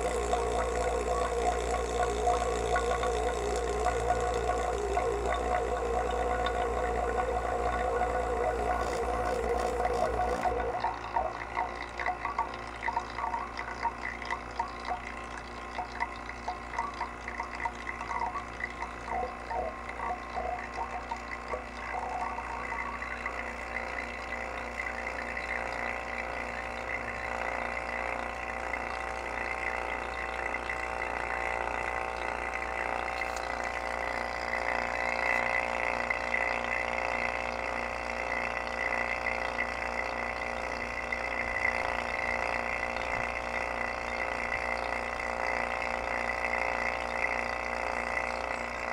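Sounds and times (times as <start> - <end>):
vacuum pump running: 0.0 - 48.9.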